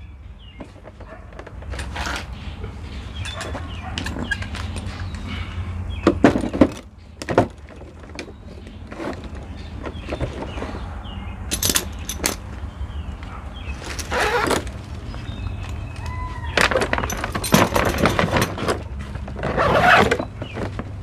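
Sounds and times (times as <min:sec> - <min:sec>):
knocks and rustling: 0:00.5 - 0:05.4, 0:06.0 - 0:10.9, 0:11.5 - 0:12.6, 0:13.7 - 0:21.0.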